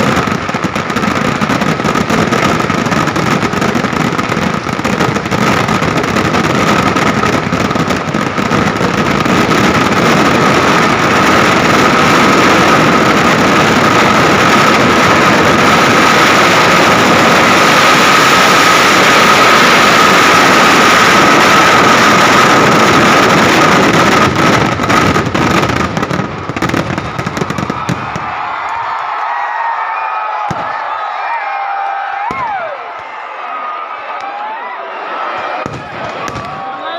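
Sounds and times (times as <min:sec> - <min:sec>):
fireworks blasts and crackling: 0:00.0 - 0:36.9.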